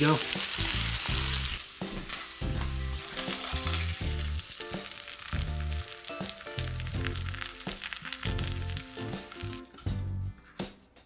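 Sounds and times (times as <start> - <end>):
fish sizzling in a frying pan: 0.0 - 9.8
music with a steady beat: 1.8 - 11.0.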